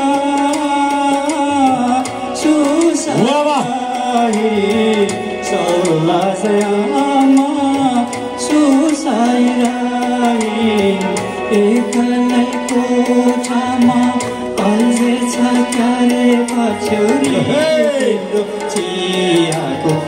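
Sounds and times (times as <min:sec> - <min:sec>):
keyboard playing chords and a beat: 0:00.0 - 0:20.0
man singing into a microphone: 0:00.0 - 0:20.0.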